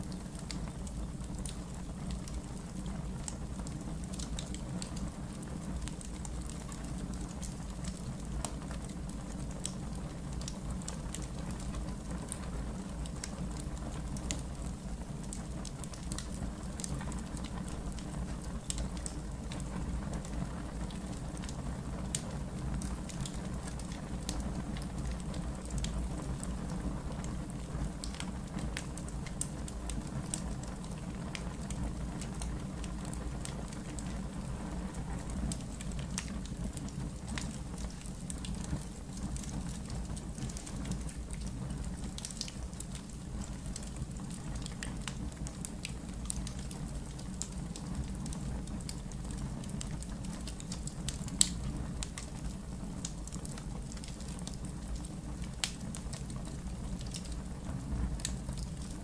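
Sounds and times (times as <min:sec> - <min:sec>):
logs crackling and popping: 0:00.0 - 0:59.0.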